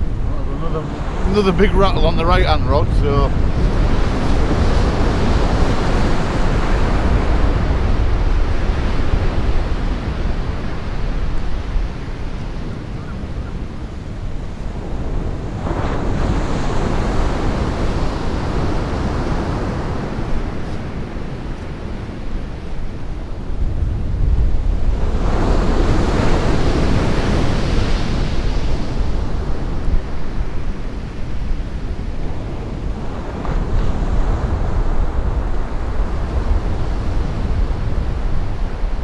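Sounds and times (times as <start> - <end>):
surf on the shore: 0.0 - 39.0
wave breaking: 0.0 - 39.0
wind buffeting microphone: 0.0 - 39.0.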